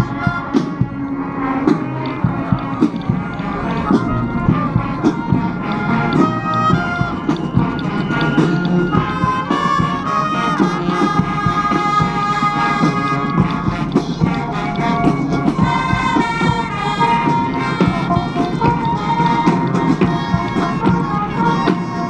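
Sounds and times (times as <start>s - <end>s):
brass band music: 0.0s - 22.0s
drum beat: 1.7s - 22.0s.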